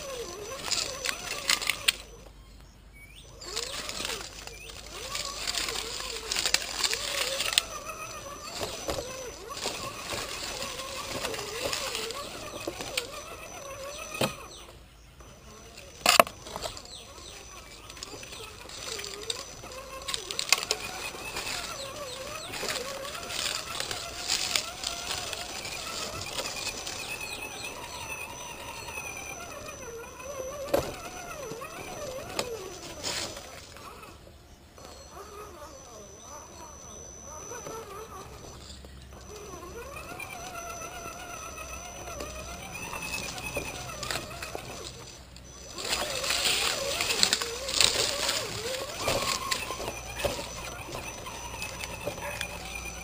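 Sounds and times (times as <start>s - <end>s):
tyres rolling over dry leaves: 0.0s - 2.6s, 3.2s - 53.0s
electric motor whining: 0.0s - 53.0s.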